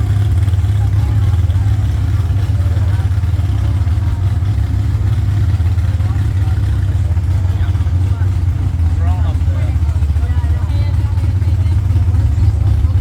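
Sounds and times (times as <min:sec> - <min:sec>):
truck engine deep rumble: 0:00.0 - 0:13.0.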